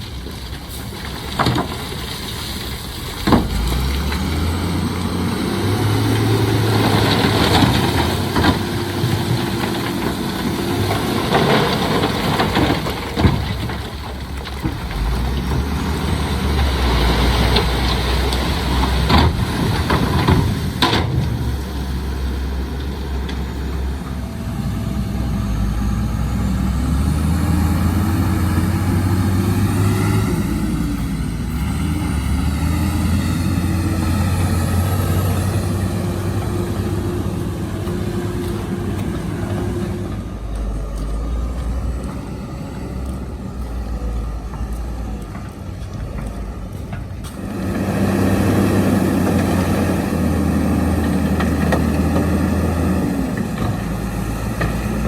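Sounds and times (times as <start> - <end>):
diesel engine revving: 0.0 - 55.0
diesel machinery engine rumble: 0.0 - 55.0.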